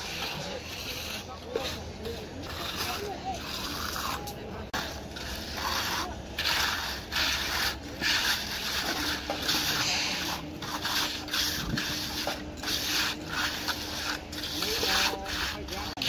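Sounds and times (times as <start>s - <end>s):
trowel scraping wet concrete: 0.0s - 16.0s.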